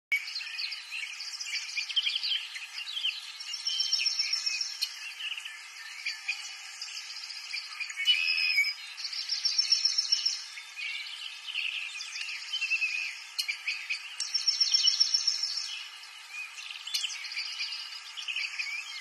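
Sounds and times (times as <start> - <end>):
songbirds chirping and trilling: 0.1 - 19.0.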